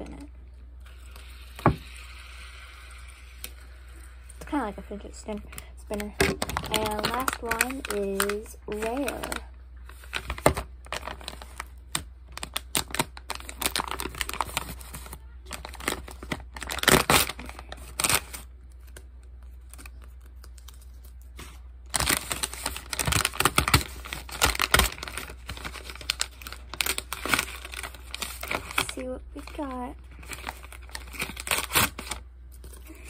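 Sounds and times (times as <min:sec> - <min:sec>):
paper packet tearing and crinkling: 0:05.9 - 0:33.0.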